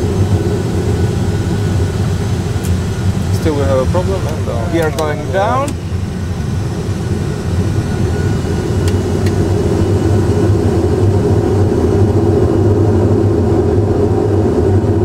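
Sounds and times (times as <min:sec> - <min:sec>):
cockpit engine and airflow rumble: 0:00.0 - 0:15.0.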